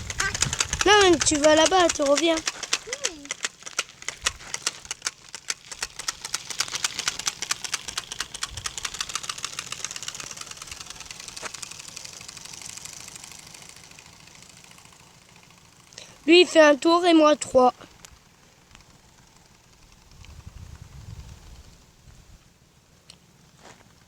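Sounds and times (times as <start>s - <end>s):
bicycle spokes clicking rattle: 0.0s - 21.8s.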